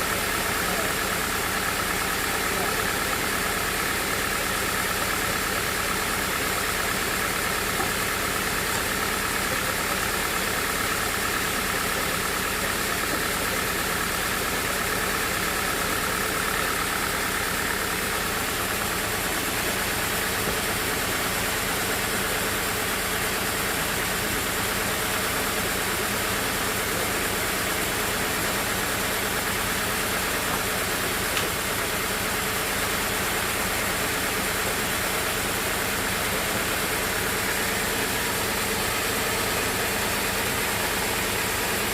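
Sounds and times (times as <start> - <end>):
sawmill engine drone: 0.0 - 41.9.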